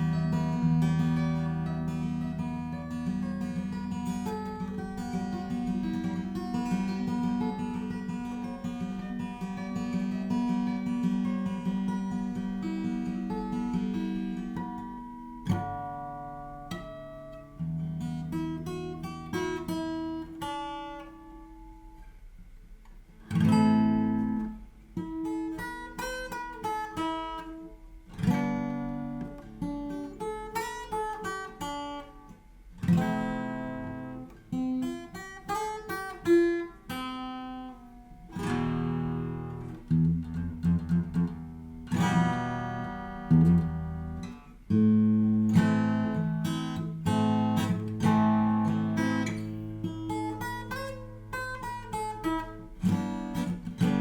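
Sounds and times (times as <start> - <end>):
acoustic guitar picking and strumming: 0.0 - 54.0.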